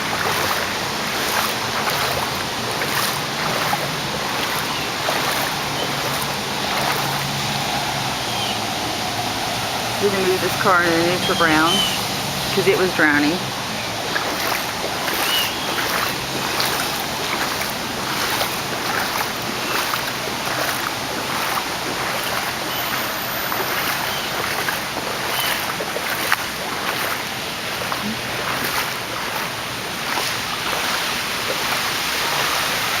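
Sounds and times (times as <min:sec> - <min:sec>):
wash of water noise: 0:00.0 - 0:33.0
water sloshing with footsteps: 0:00.0 - 0:33.0.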